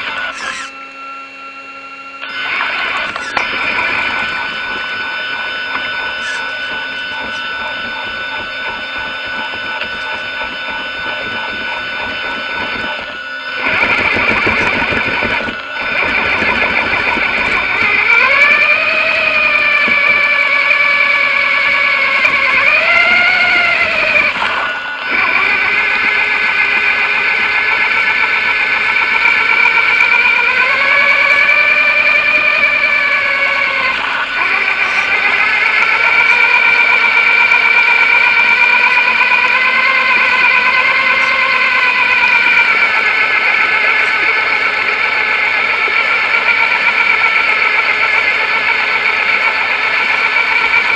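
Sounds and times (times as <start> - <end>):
rc truck motor whining: 0.0 - 50.9.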